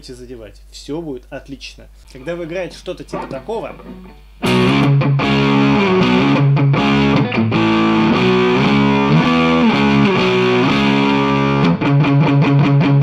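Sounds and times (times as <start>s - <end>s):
distorted electric guitar riff: 2.0s - 13.0s.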